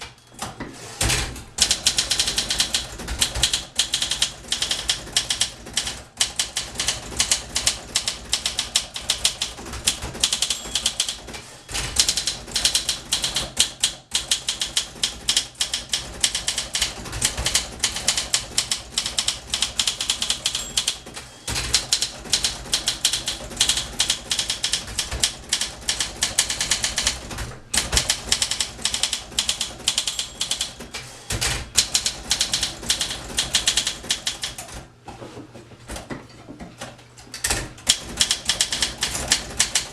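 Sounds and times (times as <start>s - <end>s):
typewriter typing fast: 1.0s - 34.9s, 37.4s - 39.9s.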